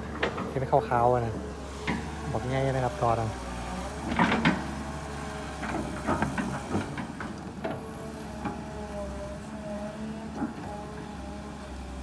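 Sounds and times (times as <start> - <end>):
excavator engine drone and whine: 0.0 - 12.0.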